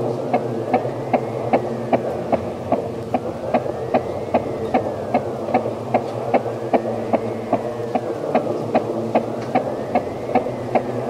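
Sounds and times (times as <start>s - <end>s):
ceiling fan humming: 0.0s - 11.0s
fan ticking: 0.0s - 11.0s.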